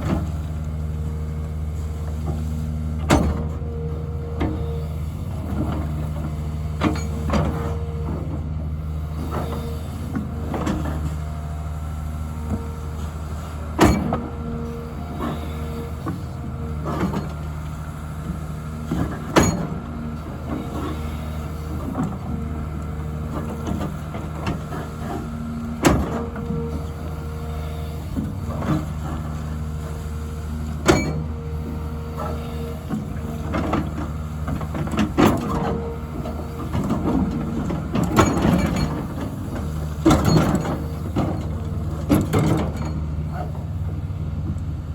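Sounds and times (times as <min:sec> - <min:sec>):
diesel engine with hydraulic whine: 0:00.0 - 0:44.9.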